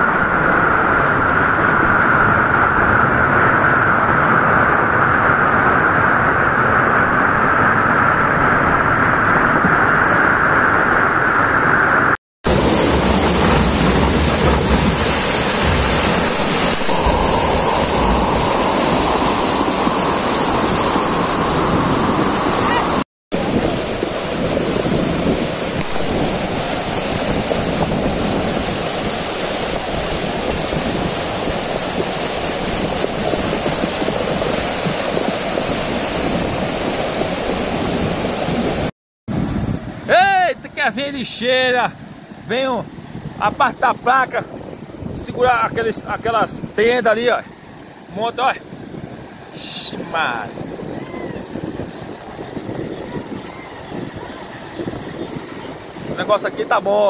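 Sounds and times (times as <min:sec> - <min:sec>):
floodwater rushing: 0:00.0 - 0:40.0, 0:45.9 - 0:57.0
wind buffeting microphone: 0:00.0 - 0:40.1, 0:41.9 - 0:57.0.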